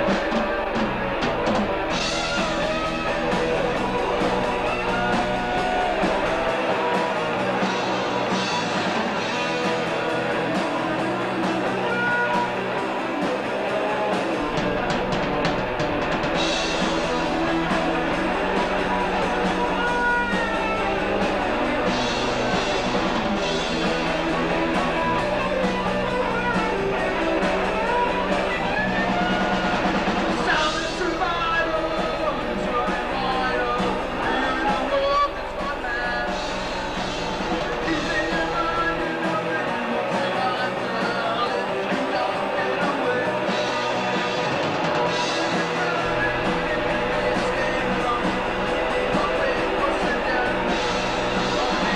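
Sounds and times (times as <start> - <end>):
drums: 0.0 - 51.9
guitar playing: 0.0 - 51.9.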